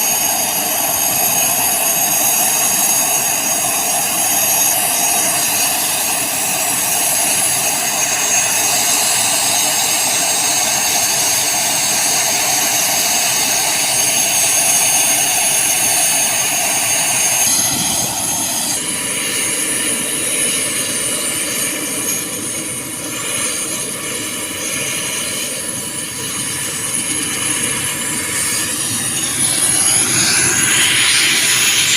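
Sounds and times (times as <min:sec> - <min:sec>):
helicopter engines and rotor: 0:00.0 - 0:31.9
high turbine whine: 0:00.0 - 0:31.9.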